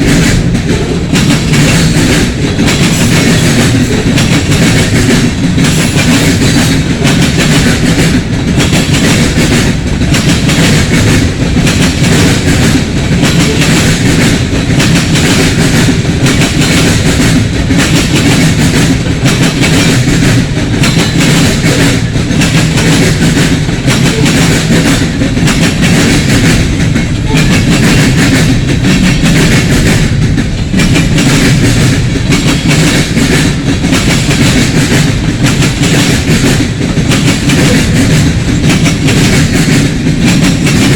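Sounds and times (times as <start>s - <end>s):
freight train wheels on rails: 0.0s - 40.9s
wheels clickety-clack on rail joints: 0.0s - 40.9s.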